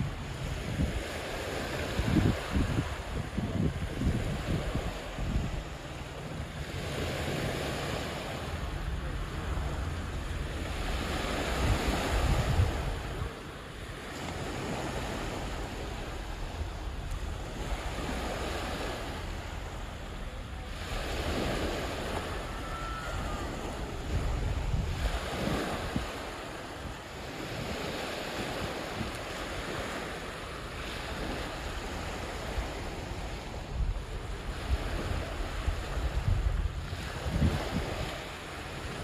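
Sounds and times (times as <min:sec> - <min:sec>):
waves washing onto shore: 0:00.0 - 0:39.0
wind buffeting microphone: 0:00.0 - 0:39.0.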